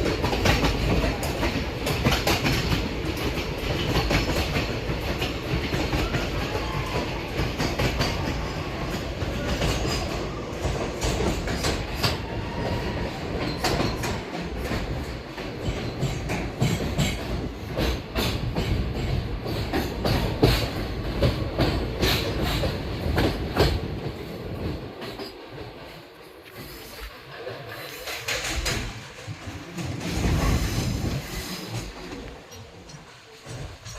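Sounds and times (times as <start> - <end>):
train coaches rumbling: 0.0 - 33.9
wheels clicking over rail joints: 0.0 - 33.9.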